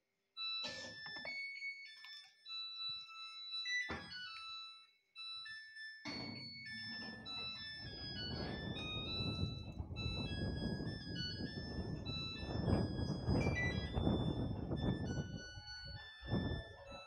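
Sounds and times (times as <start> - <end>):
washing machine beep melody: 0.4 - 17.0.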